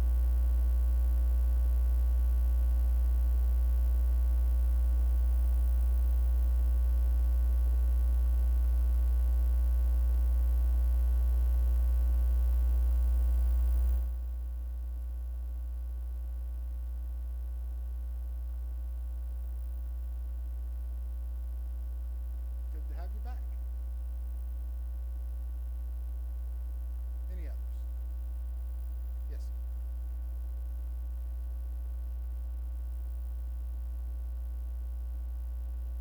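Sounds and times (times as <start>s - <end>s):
low electrical mains hum: 0.0s - 36.0s.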